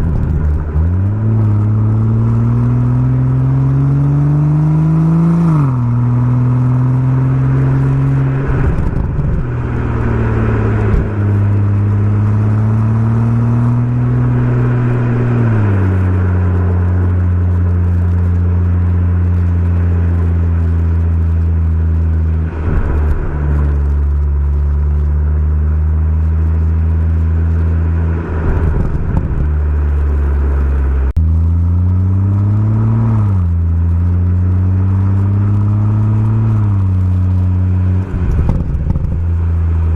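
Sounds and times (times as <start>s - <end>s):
car engine under load: 0.0s - 39.9s.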